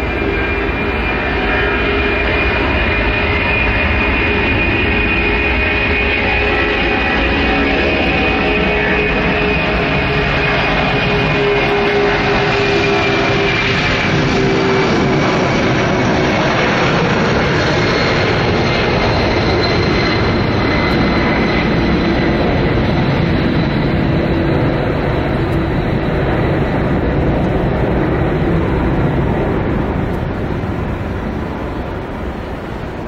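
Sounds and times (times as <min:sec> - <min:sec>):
jet engines at takeoff: 0:00.0 - 0:33.0.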